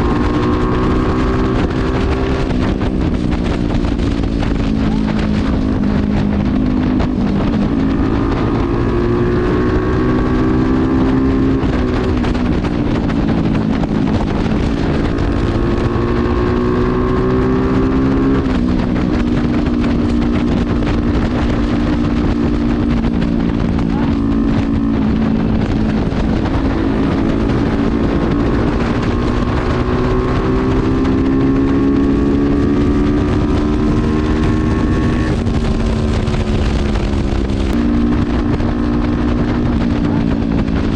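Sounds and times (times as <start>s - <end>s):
motorcycle accelerating through gears: 0.0s - 40.9s
wind noise on microphone: 0.0s - 40.9s.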